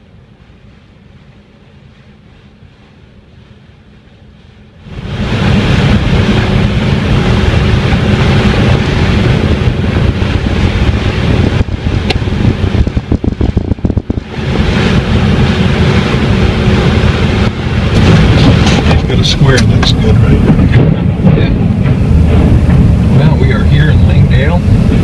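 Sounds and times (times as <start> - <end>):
faint steady rumble: 0.0 - 25.0
wind buffeting microphone: 4.8 - 25.0.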